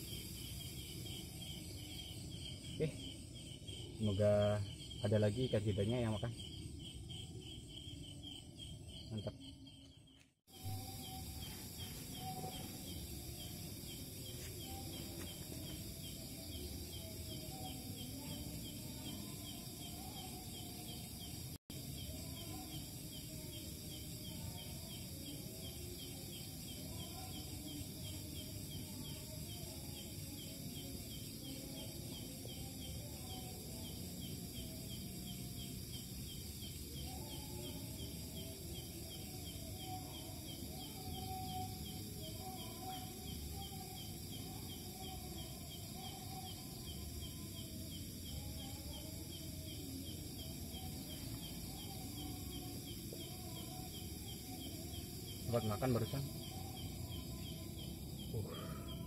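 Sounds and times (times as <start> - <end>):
high-pitched insect trills: 0.0 - 59.0
insects chirping: 0.0 - 59.0.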